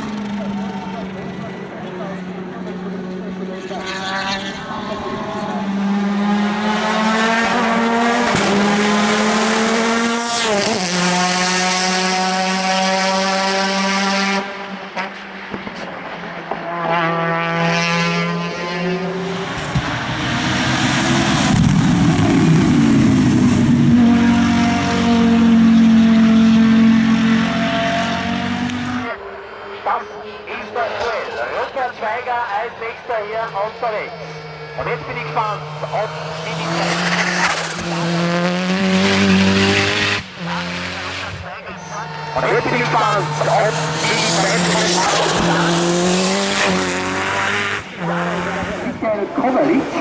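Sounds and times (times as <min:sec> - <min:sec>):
race car engines revving: 0:00.0 - 0:50.0.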